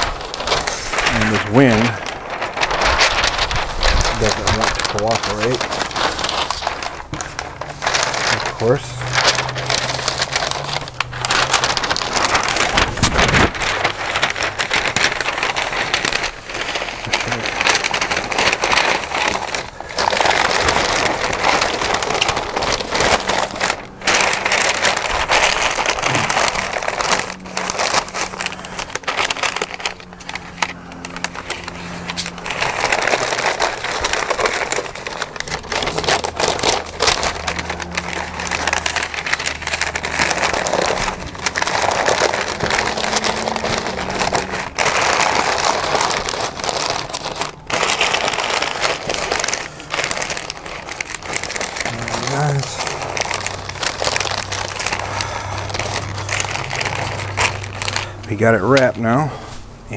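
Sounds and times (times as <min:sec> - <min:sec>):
stiff paper crinkling: 0:00.0 - 0:59.9.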